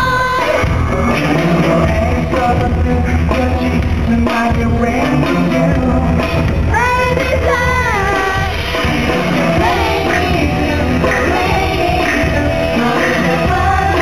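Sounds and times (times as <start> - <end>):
live pop music with heavy beat: 0.0 - 14.0
person singing: 0.0 - 14.0.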